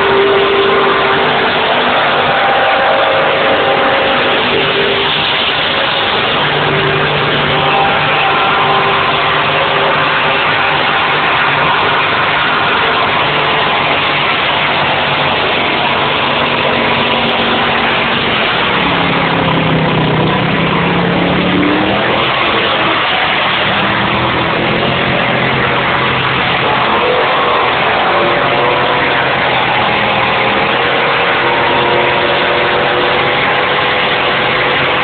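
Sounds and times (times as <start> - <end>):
car engine at high revs: 0.0 - 35.0
tyres spinning: 0.0 - 35.0.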